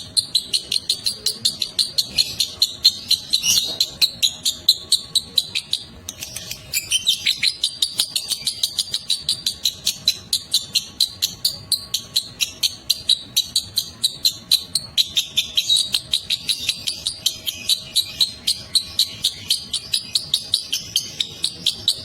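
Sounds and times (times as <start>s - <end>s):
bird chattering song: 0.0s - 22.0s.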